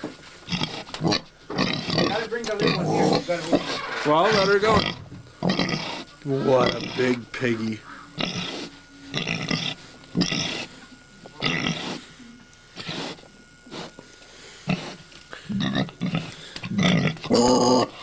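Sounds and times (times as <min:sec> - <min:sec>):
pig grunting: 0:00.5 - 0:12.1, 0:12.8 - 0:13.2, 0:14.6 - 0:18.0.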